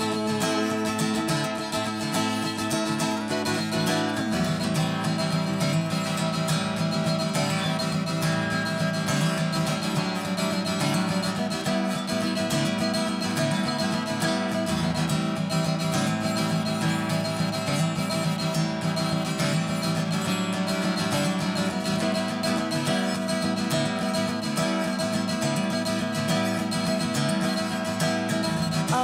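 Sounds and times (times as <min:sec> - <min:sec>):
acoustic guitar picked and strummed: 0:00.0 - 0:29.0.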